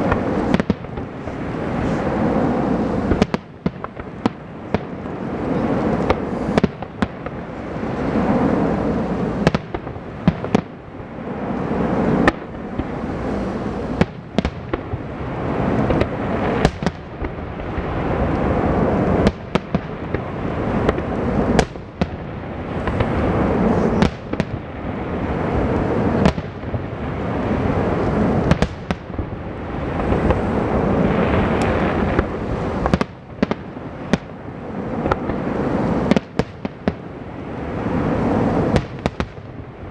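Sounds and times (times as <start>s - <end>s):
dense rumbling noise: 0.0s - 39.9s.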